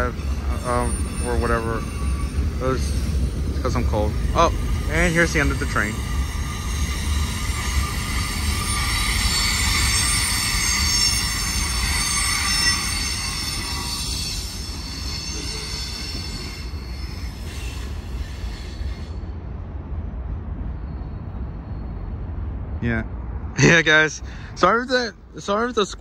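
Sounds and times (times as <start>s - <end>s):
train wheels squealing on rails: 0.0s - 19.6s, 20.5s - 22.6s
low rolling rumble of train: 0.0s - 26.0s.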